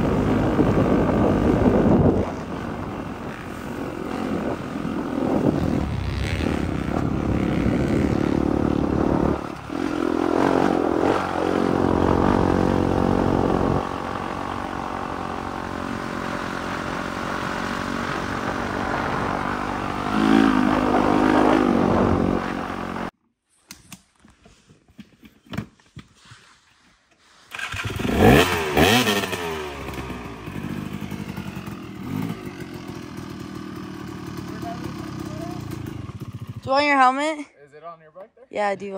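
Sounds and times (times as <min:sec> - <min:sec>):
dirt bike engine revving: 0:00.0 - 0:23.1, 0:27.5 - 0:37.0.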